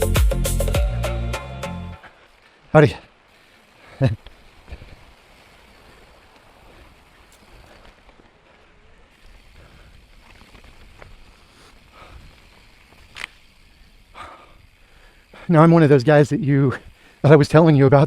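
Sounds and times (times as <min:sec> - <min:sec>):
tyre and wind hiss: 0:01.9 - 0:18.0
bike clicks and rattles: 0:02.0 - 0:18.0.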